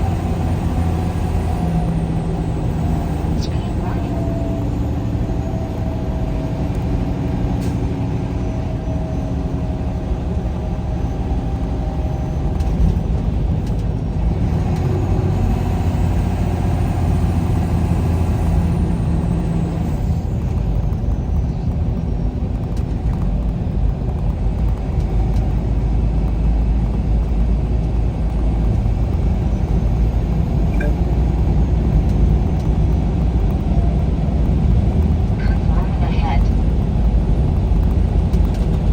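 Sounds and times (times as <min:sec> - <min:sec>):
vehicle driving on road: 0:00.0 - 0:38.9.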